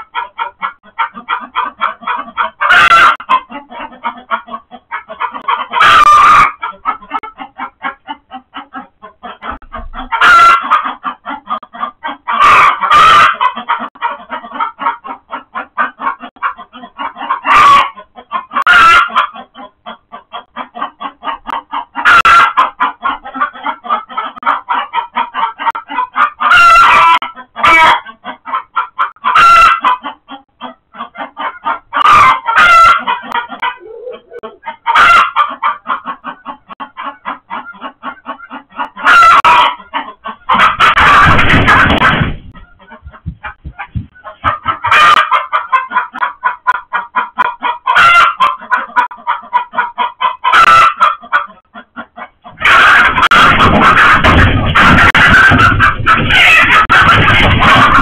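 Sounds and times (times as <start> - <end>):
chickens alarm clucking: 0.0 - 58.0
chickens squawking loudly: 0.0 - 58.0.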